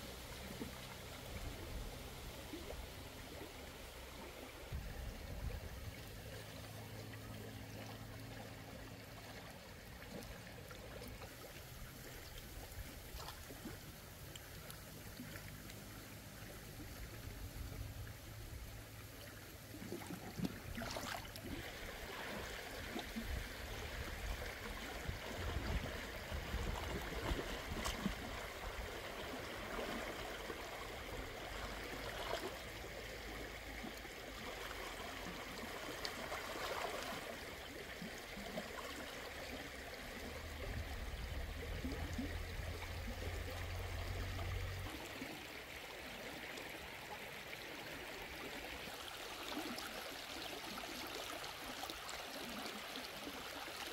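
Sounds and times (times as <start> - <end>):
shallow river water flowing: 0.0 - 53.9
water splashing and sloshing: 0.0 - 53.9.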